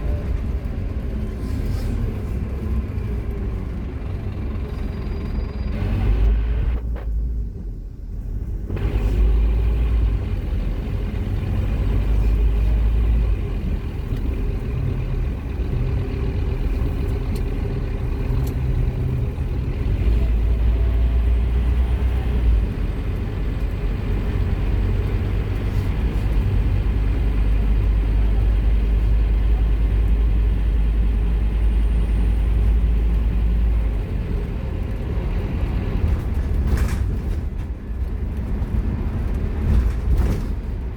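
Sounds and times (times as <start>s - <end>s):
diesel bus engine droning: 0.0s - 40.9s.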